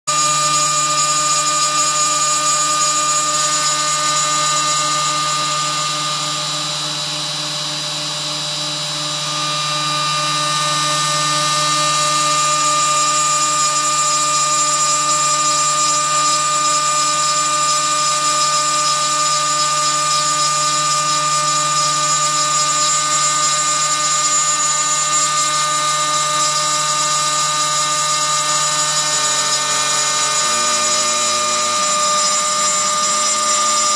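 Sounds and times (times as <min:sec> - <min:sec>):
router spindle whine cutting aluminum: 0:00.1 - 0:33.9.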